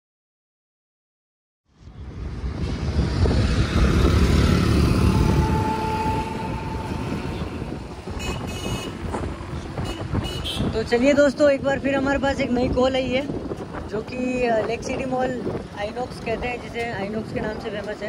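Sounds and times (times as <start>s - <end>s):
vehicle road noise: 1.7s - 18.0s.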